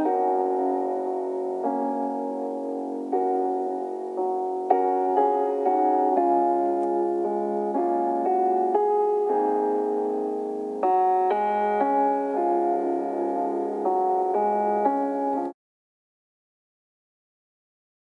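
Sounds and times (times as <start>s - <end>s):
keyboard chords: 0.0s - 15.6s.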